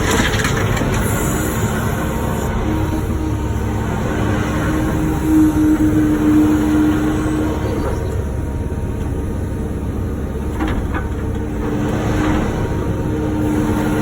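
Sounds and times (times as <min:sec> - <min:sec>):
engine whine: 0:00.0 - 0:14.0
excavator diesel engine running: 0:00.0 - 0:14.0.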